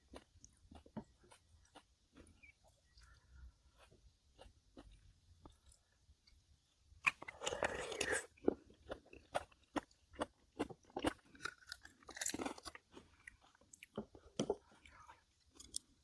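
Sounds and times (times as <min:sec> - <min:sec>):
person chewing crunchy seafood: 0:00.0 - 0:05.8, 0:07.0 - 0:16.0.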